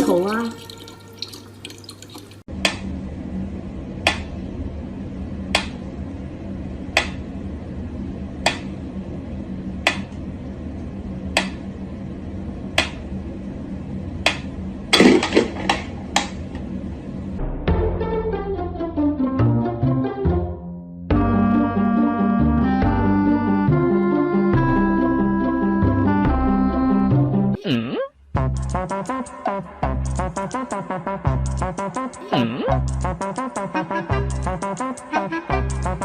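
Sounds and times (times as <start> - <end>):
steady low hum: 2.4 - 17.6, 21.2 - 36.0.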